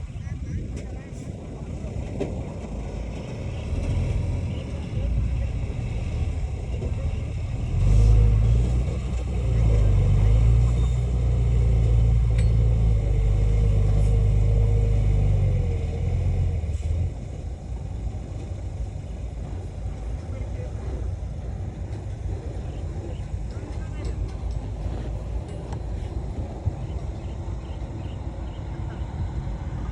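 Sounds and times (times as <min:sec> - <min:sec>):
deep diesel engine rumble: 0:00.0 - 0:29.9.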